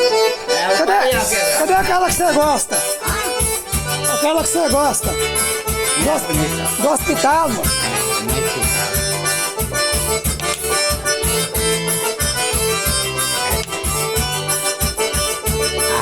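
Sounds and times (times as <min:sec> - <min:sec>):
accordion-like keyboard melody: 0:00.0 - 0:16.0
steady bass beat: 0:01.0 - 0:16.0.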